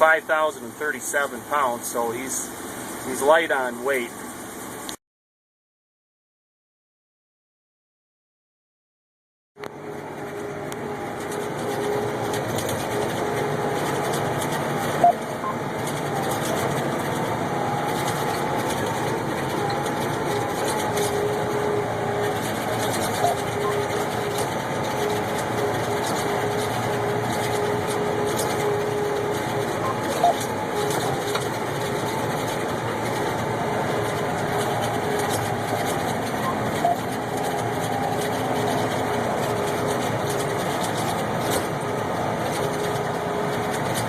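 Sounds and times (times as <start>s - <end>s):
combine harvester droning: 0.0s - 5.0s, 9.6s - 44.0s.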